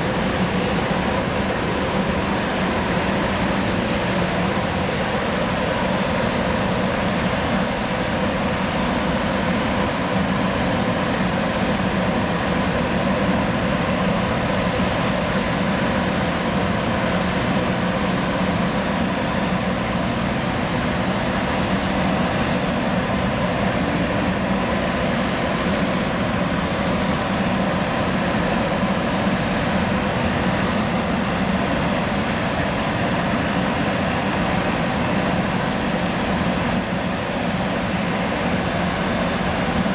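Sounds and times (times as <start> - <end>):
high steady whine: 0.0 - 39.9.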